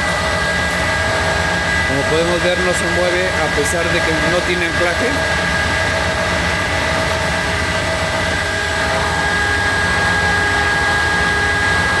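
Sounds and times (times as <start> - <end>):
washing machine drum spinning: 0.0 - 12.0.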